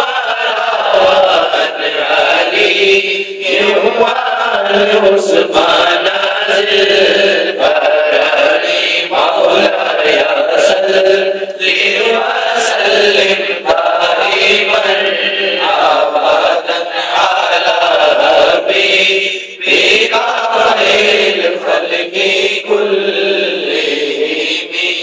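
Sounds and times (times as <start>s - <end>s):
man chanting into a microphone: 0.0s - 25.0s.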